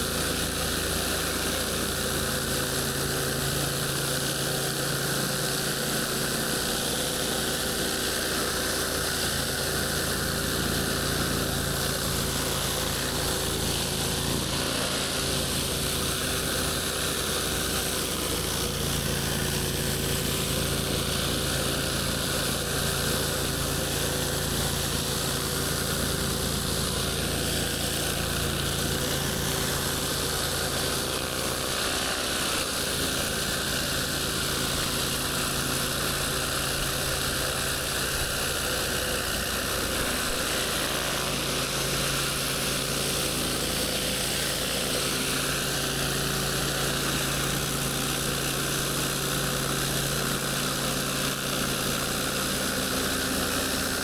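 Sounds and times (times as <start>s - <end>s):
pressure washer engine running: 0.0s - 54.0s
water spraying on concrete: 0.0s - 54.0s.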